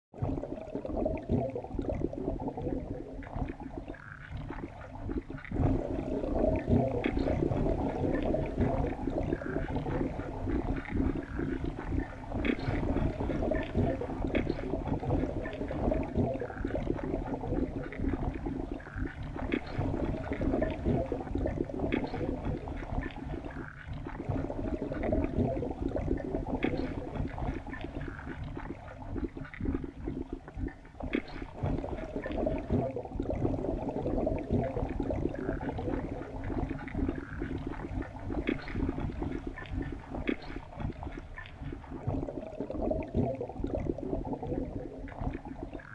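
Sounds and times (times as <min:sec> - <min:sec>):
muffled underwater rumble: 0:00.2 - 0:45.9.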